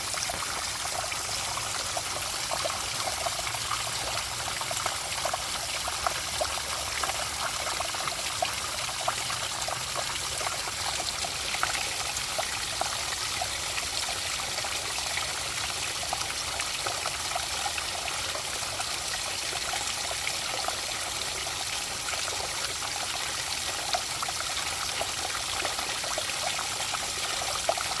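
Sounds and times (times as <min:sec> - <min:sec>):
water trickling and babbling: 0:00.0 - 0:28.0.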